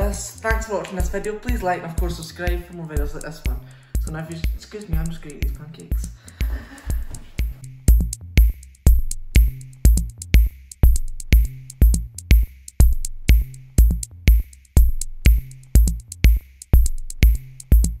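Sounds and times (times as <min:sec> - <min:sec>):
electronic beat music: 0:00.0 - 0:18.0.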